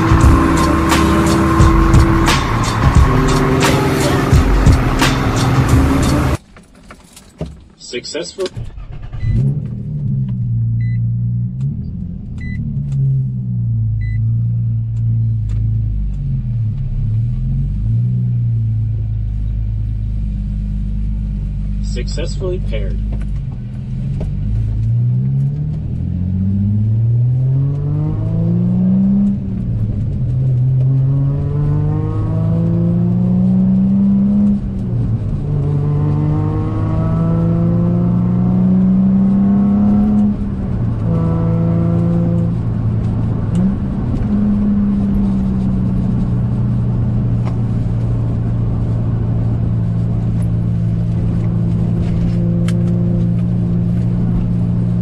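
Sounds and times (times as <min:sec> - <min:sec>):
car engine accelerating through gears: 0:00.0 - 0:06.4, 0:08.4 - 0:55.0.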